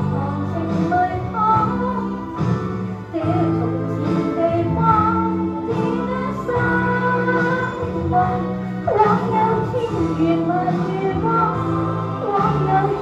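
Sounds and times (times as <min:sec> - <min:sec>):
instrumental accompaniment: 0:00.0 - 0:13.0
woman singing pop ballad: 0:00.0 - 0:13.0.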